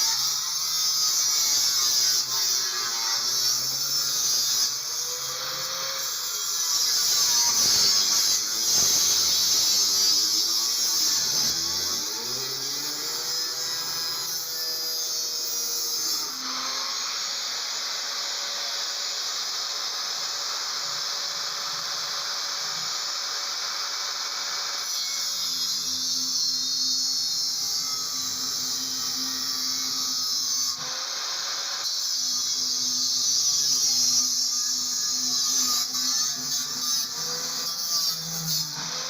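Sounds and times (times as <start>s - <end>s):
small electric motor whining: 0.0s - 39.0s.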